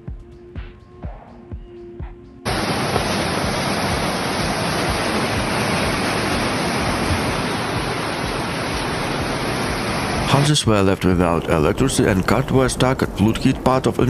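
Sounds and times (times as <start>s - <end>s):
water rushing: 2.5s - 14.0s.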